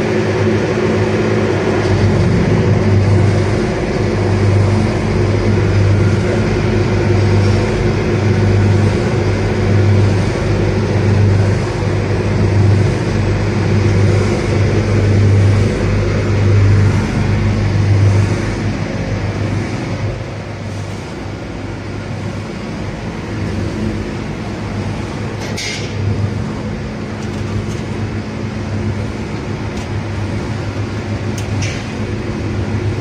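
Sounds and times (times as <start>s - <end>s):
deep mechanical throb: 0.0s - 33.0s
machine humming: 0.0s - 33.0s.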